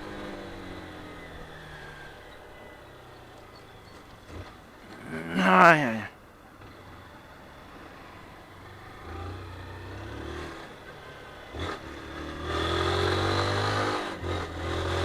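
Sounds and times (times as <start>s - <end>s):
motorcycle engine accelerating: 0.0s - 5.3s, 6.6s - 15.0s.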